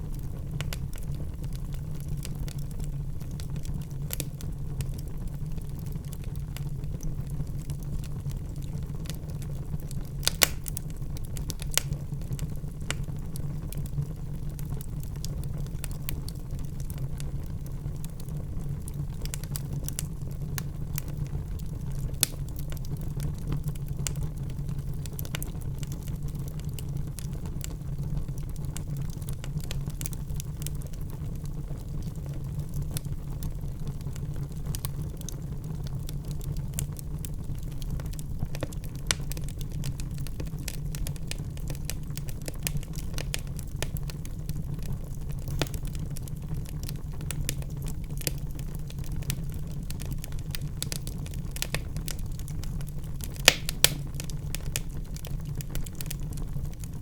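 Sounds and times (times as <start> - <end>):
fire flames rumbling: 0.0 - 57.0
logs crackling and popping: 0.1 - 57.0.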